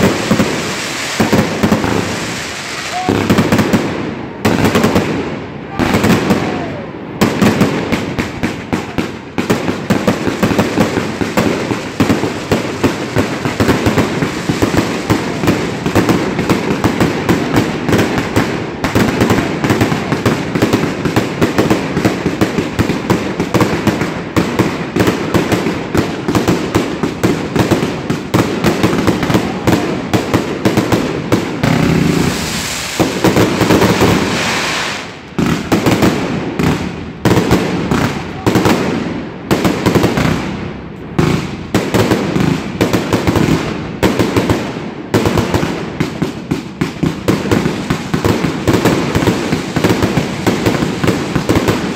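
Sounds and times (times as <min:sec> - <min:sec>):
firework cake barrage: 0:00.0 - 0:51.9.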